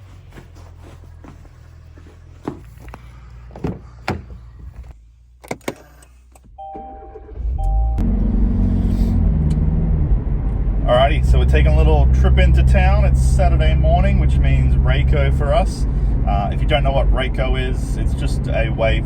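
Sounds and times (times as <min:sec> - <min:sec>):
car engine starting and running: 0:00.0 - 0:19.0.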